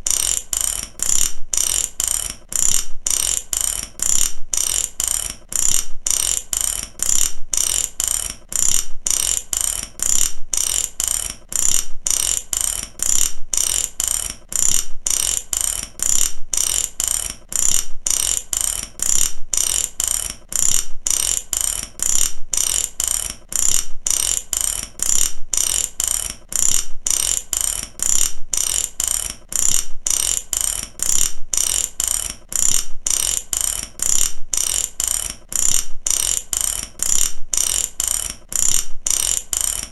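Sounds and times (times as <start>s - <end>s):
ratchet clicking: 0.0s - 39.9s.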